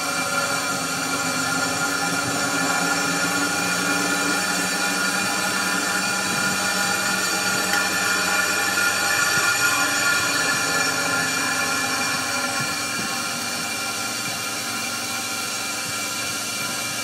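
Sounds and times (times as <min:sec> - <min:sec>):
milling machine whining: 0:00.0 - 0:17.0
motor hum: 0:00.0 - 0:17.0.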